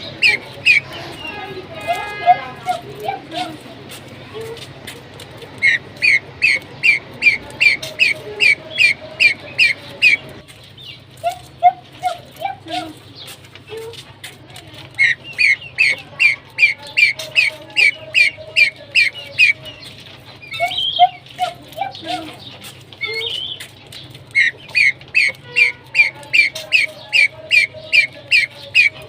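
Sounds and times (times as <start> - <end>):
lower pheasant calls: 0.0 - 3.6, 5.6 - 13.9, 15.0 - 29.0
pheasants chirping: 0.0 - 29.0.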